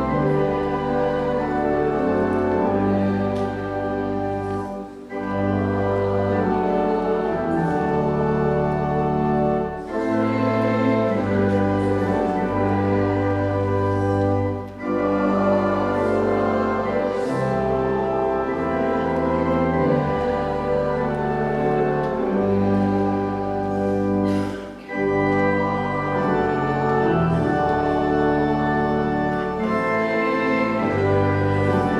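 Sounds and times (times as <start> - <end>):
church organ chords: 0.0 - 31.9.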